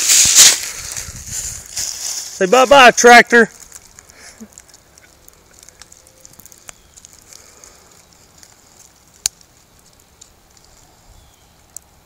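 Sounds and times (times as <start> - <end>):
sharp crack: 0.0 - 1.1, 1.7 - 10.4
sparklers fizzing and crackling: 0.0 - 10.7.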